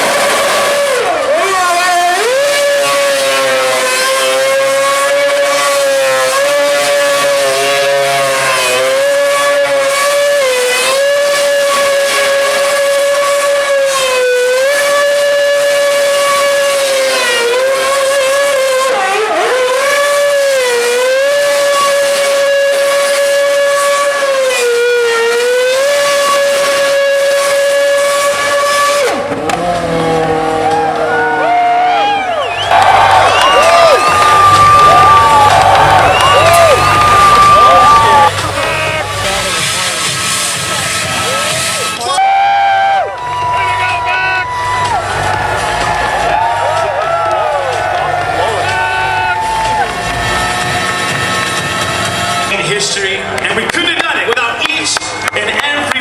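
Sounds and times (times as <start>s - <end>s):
racing car engine at high revs: 0.0s - 42.2s, 43.0s - 56.0s.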